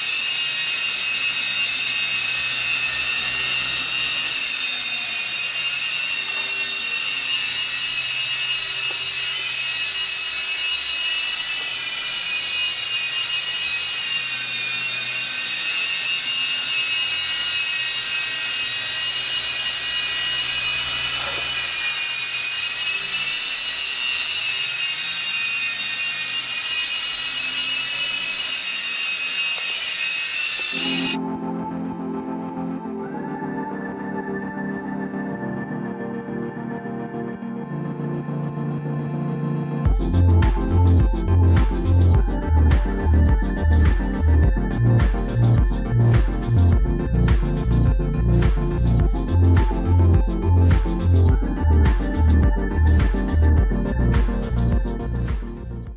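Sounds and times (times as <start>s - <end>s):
toy helicopter rotors whining: 0.0s - 31.2s, 39.8s - 55.9s.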